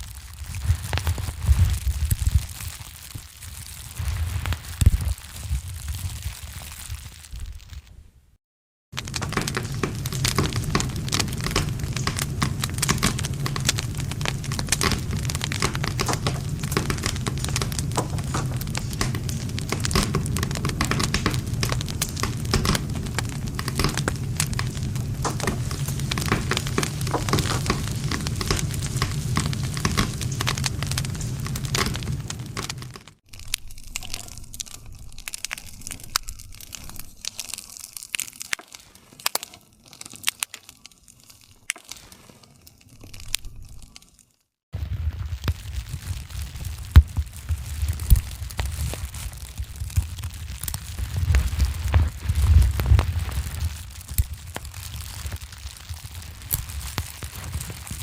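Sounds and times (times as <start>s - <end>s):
wood fire crackling and popping: 0.0s - 7.9s, 8.9s - 58.0s
low rumble of flames: 0.0s - 8.2s, 8.9s - 38.2s, 44.7s - 58.0s.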